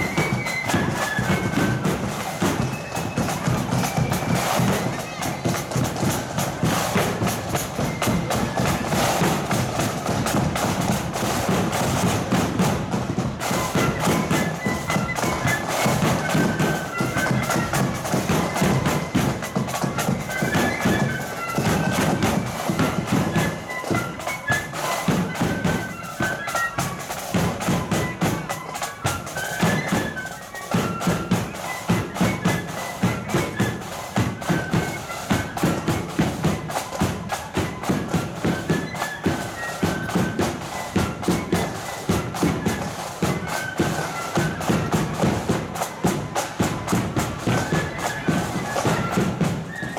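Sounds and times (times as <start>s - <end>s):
flutes playing melody: 0.0s - 49.9s.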